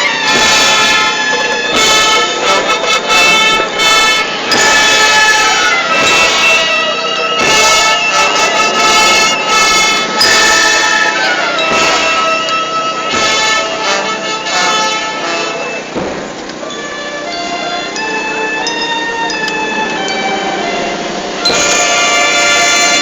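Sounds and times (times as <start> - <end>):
brass band funeral march: 0.0 - 23.0
heavy drum strokes: 0.0 - 23.0.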